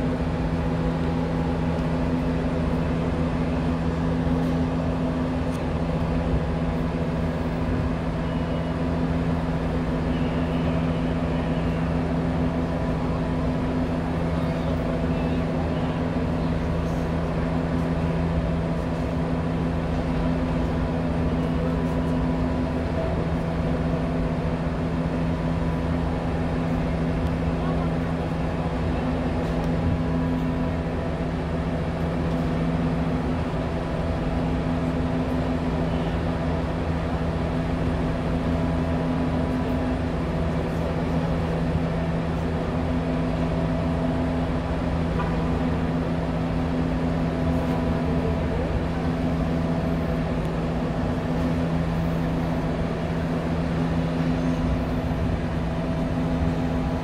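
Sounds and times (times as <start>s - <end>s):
machinery drone: 0.0s - 57.0s.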